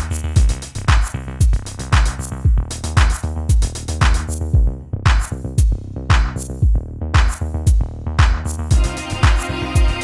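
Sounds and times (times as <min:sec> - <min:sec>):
electronic music with drum-machine beat: 0:00.0 - 0:10.0.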